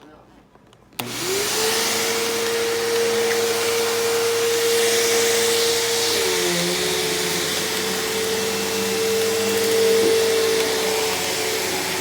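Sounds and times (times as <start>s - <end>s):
vacuum cleaner motor whining: 1.0s - 12.0s.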